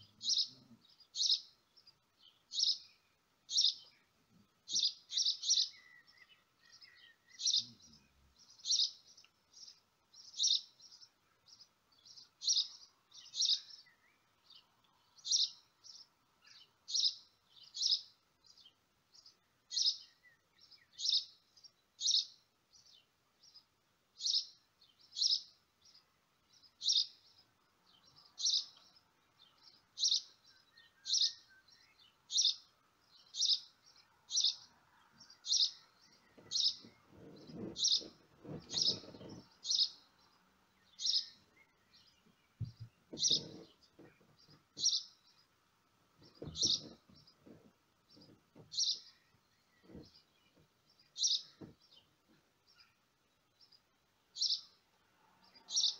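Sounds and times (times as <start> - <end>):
small bird chirping: 0.0 - 55.9.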